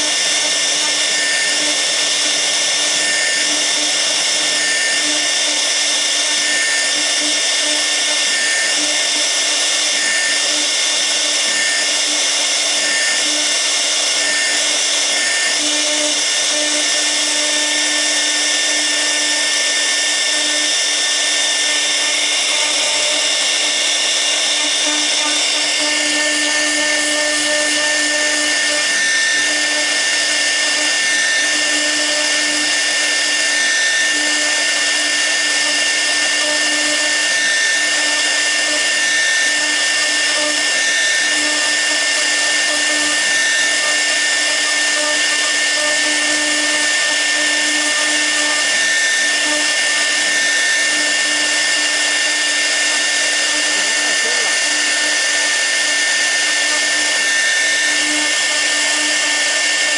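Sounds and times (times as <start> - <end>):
router spindle whining: 0.0 - 59.9.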